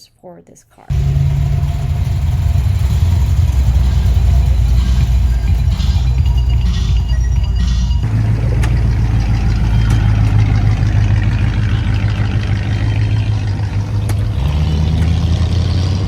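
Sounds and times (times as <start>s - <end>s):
car engine running: 0.9s - 16.0s.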